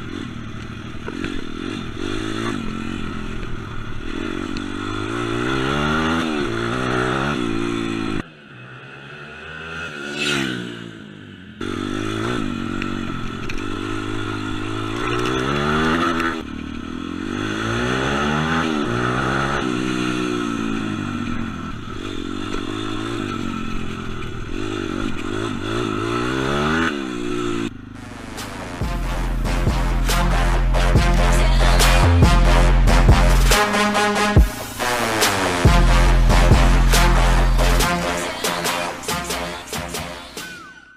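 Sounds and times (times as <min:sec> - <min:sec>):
pit bike engine revving: 0:00.0 - 0:40.6.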